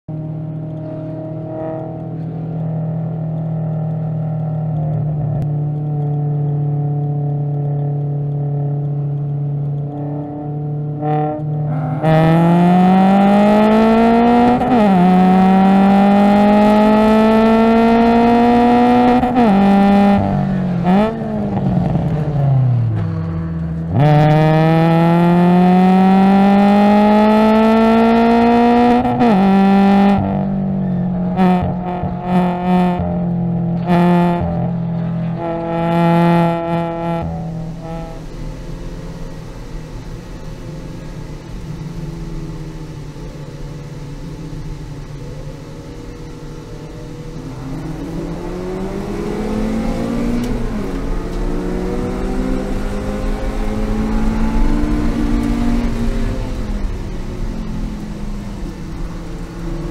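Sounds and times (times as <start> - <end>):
race car engine revving: 0.1 - 59.9.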